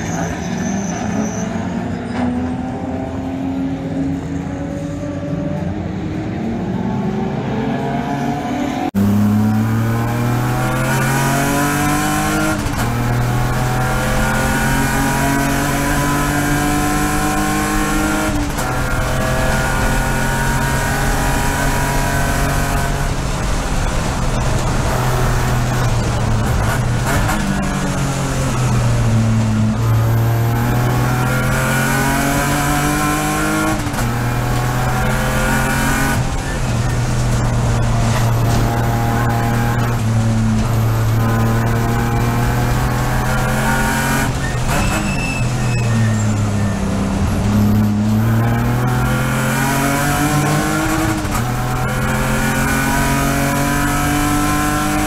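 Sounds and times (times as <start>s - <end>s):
car on track from trackside: 0.0s - 55.0s
race car engine revving: 2.1s - 55.0s.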